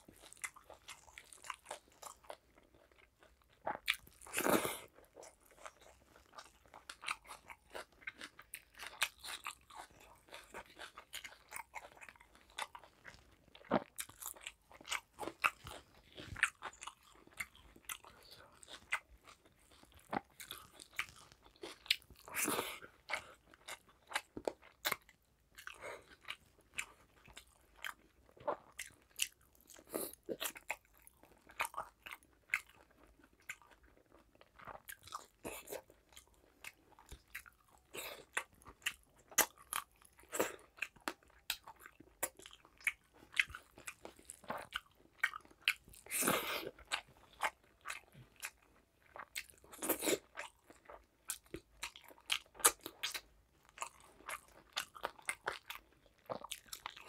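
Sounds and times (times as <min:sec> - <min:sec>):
wet chewing and lip smacking: 0:00.0 - 0:57.0.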